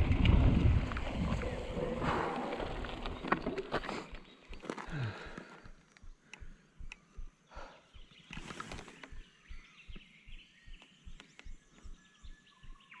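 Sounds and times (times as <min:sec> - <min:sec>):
birds chirping: 0:01.2 - 0:13.0.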